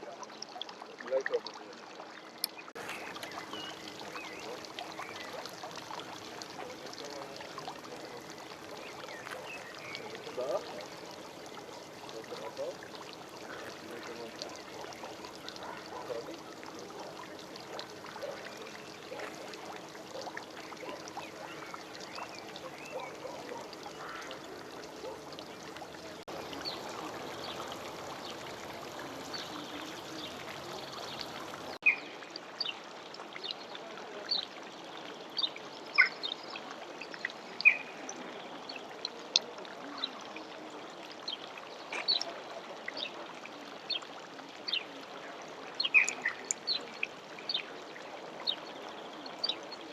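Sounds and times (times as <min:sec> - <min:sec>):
running water: 0:00.0 - 0:49.9.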